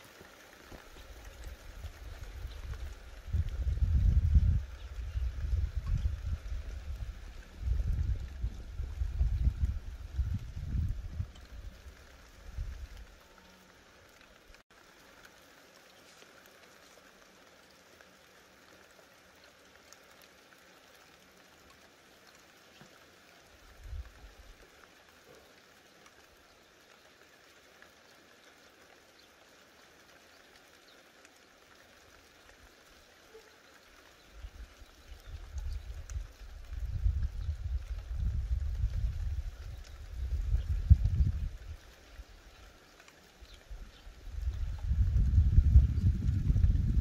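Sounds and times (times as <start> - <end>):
light rain falling: 0.0 - 47.0.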